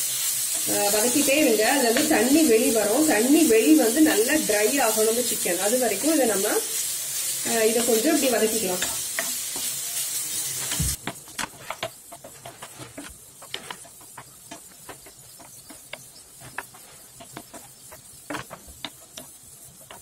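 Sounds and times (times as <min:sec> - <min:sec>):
chicken sizzling in pan: 0:00.0 - 0:20.0
spatula scraping frying pan: 0:00.2 - 0:20.0.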